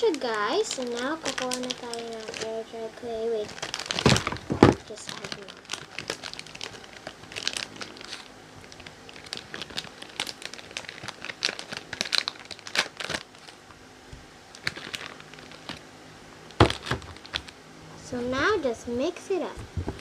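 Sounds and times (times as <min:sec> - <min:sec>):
plastic packaging crinkling: 0:00.0 - 0:13.8, 0:14.5 - 0:15.9, 0:16.5 - 0:17.6.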